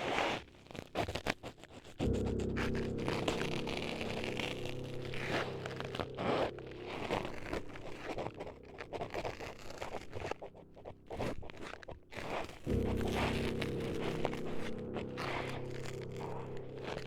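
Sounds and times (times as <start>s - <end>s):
low steady drone: 2.0s - 17.0s.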